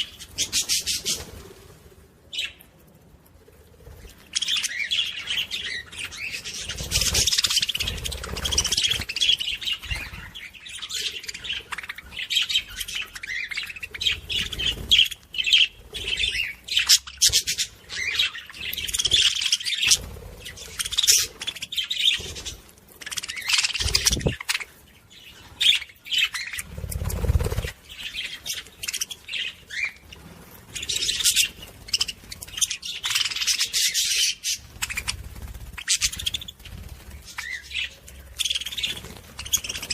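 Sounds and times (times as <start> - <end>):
parrots chirping and chattering: 0.0 - 1.5, 3.7 - 39.9.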